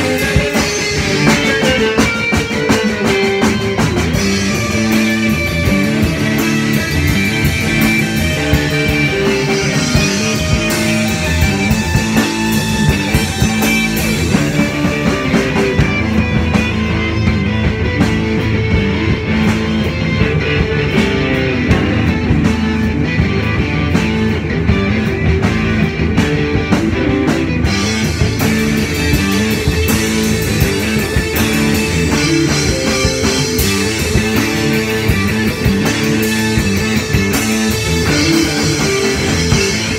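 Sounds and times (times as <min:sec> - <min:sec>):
drum kit playing: 0:00.0 - 0:39.9
electric guitars: 0:00.0 - 0:39.9.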